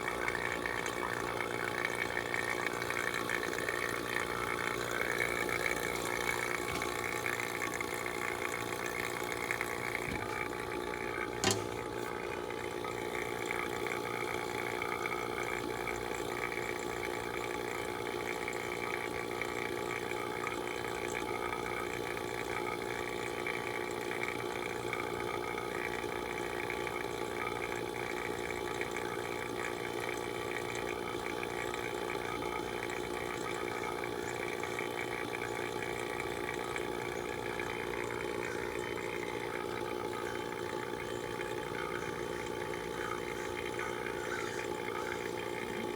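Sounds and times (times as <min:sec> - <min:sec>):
vacuum pump running: 0:00.0 - 0:45.9.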